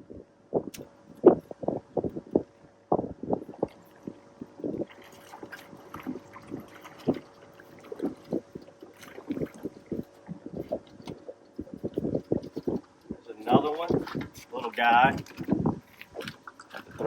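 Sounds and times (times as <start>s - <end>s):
faint steady hum: 0.0s - 17.0s
water lapping against boat hull: 0.6s - 17.0s.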